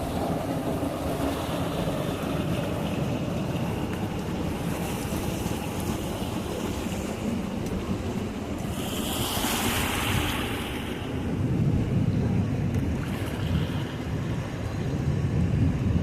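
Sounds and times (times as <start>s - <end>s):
waves washing on shore: 0.0s - 16.0s
wind rumble on microphone: 0.0s - 16.0s.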